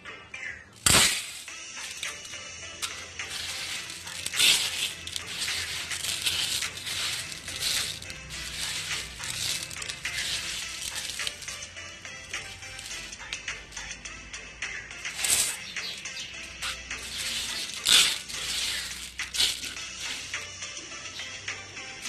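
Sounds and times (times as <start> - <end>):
rice grains rustling in plastic basin: 0.8 - 13.9, 15.0 - 20.6.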